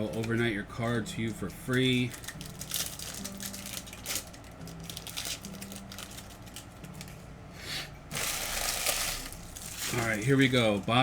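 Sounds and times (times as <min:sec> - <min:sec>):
plastic wrapping crinkling: 0:00.0 - 0:07.2, 0:08.1 - 0:11.0.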